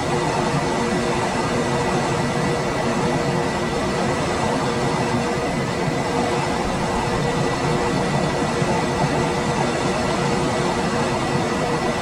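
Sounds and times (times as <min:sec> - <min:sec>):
air conditioner fan rush: 0:00.0 - 0:12.0.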